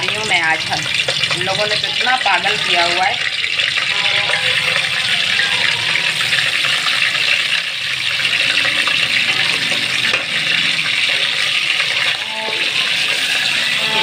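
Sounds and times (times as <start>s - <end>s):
beef sizzling in hot oil: 0.0s - 14.0s.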